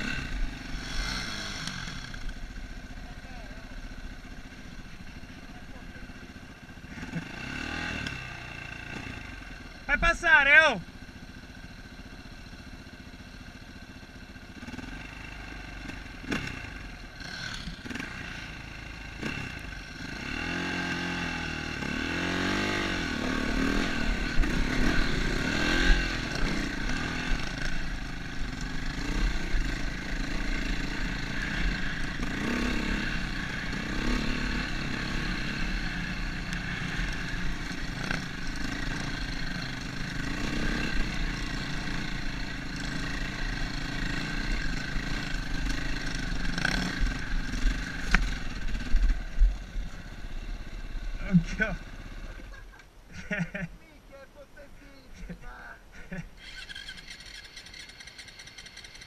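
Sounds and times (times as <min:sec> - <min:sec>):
motorcycle engine revving: 0:00.0 - 0:53.7, 0:56.0 - 0:59.0.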